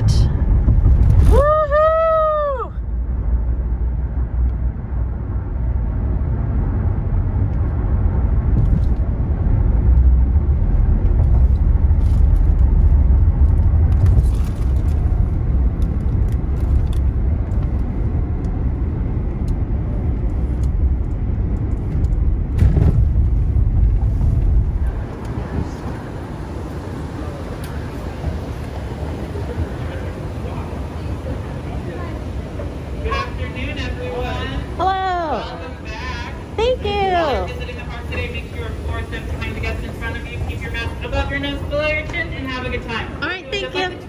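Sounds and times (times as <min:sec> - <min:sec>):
low road rumble in car: 0:00.0 - 0:44.0.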